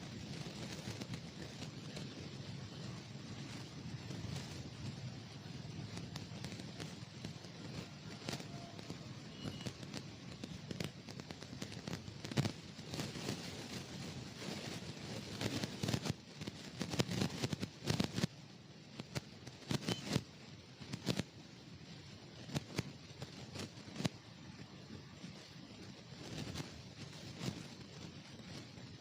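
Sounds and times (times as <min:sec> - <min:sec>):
microphone crackles and rustles: 0:00.0 - 0:29.0
wind and road rumble: 0:00.0 - 0:29.0.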